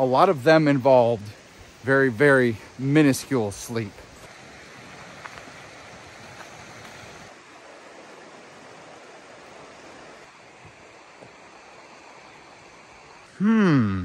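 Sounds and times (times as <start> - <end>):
creek water flowing: 0.0 - 13.4.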